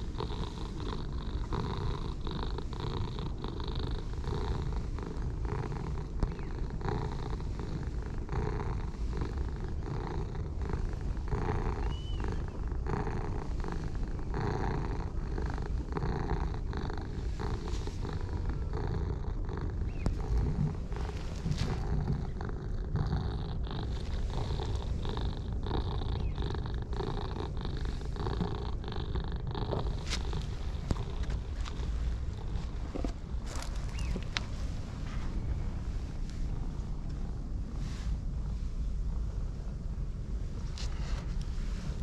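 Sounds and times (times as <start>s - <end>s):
cat purring: 0.0s - 42.0s.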